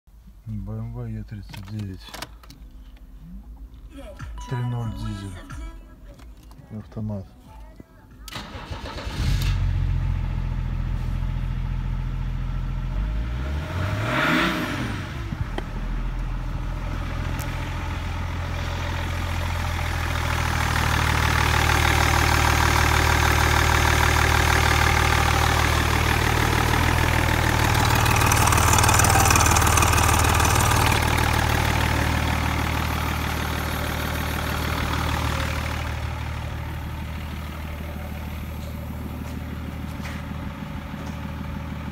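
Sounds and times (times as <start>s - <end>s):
diesel engine idling and revving: 8.3s - 41.9s.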